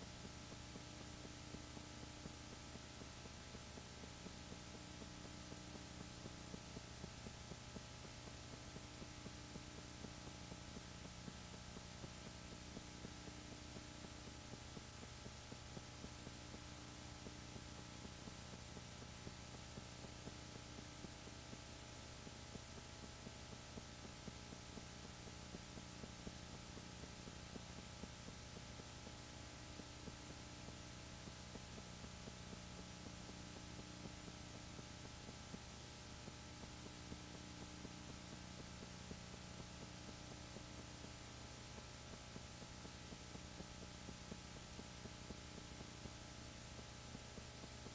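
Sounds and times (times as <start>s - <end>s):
faint steady hum: 0.0s - 47.9s
light ticks: 0.2s - 47.9s.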